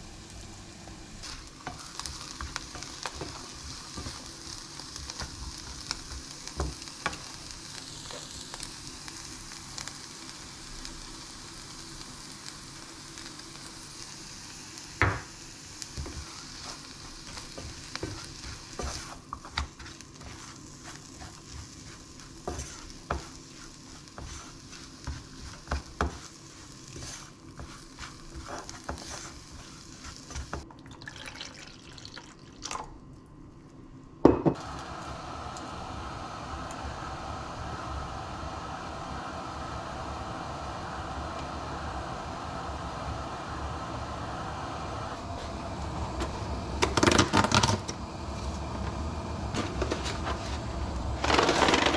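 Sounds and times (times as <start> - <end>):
broccoli sizzling in pot: 0.0 - 31.3, 34.6 - 51.9.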